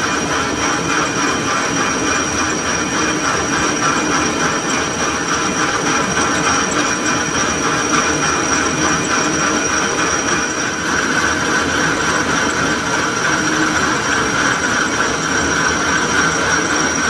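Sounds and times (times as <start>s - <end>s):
metal lathe running: 0.0s - 17.0s
thin high whine: 0.0s - 17.0s.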